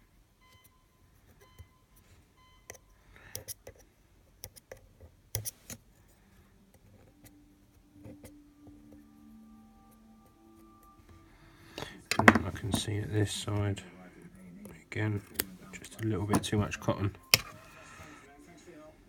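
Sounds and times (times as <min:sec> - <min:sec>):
low steady background tones: 0:00.0 - 0:19.0.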